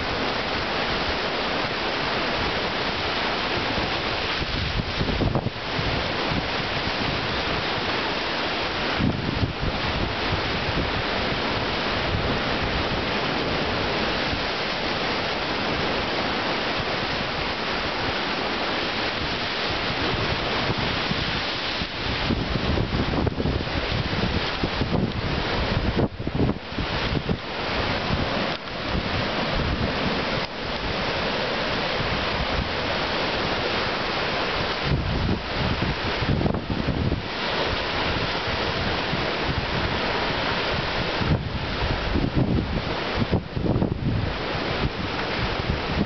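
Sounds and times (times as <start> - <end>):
surf rushing between rocks: 0.0 - 46.0
wind buffeting microphone: 2.3 - 18.2, 18.8 - 46.0.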